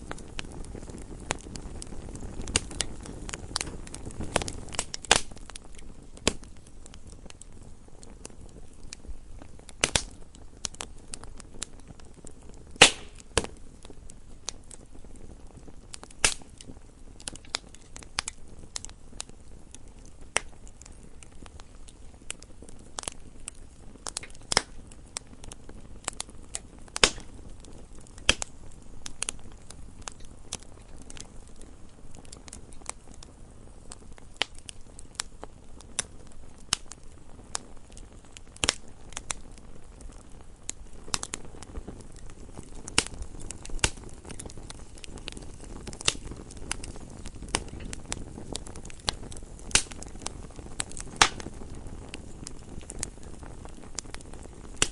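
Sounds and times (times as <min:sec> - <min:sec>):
fire popping and snapping: 0:00.0 - 0:54.9
wood fire crackling: 0:00.0 - 0:54.9.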